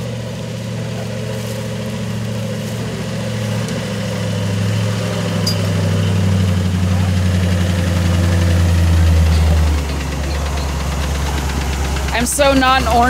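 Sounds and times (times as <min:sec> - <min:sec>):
off-road vehicle engine low revs: 0:00.0 - 0:13.0.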